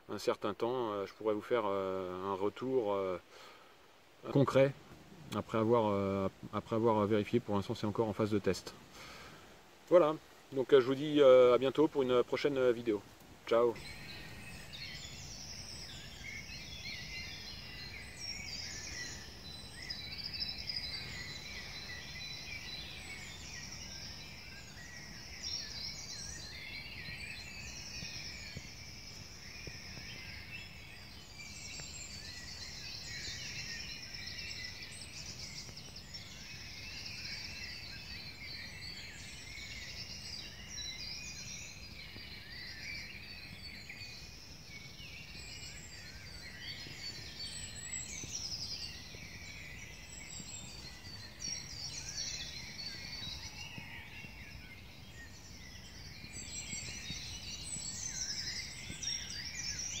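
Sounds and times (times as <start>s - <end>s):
birds chirping: 0.0s - 60.0s.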